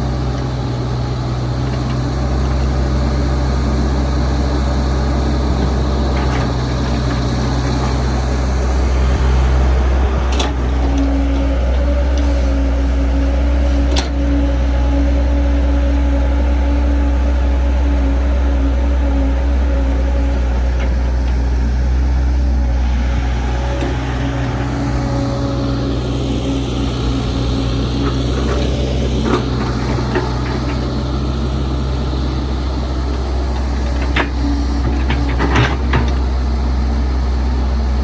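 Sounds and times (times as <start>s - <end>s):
heavy diesel engine running: 0.0s - 38.0s
steady high whine: 0.0s - 38.0s.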